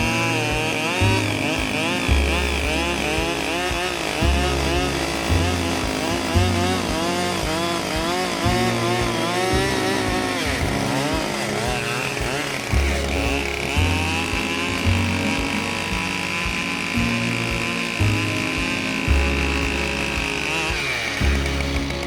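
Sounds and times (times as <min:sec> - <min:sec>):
chainsaw cutting logs: 0:00.0 - 0:22.0.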